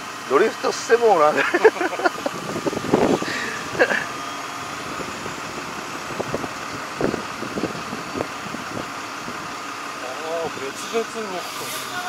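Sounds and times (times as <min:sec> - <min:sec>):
crane engine running: 0:00.0 - 0:12.0.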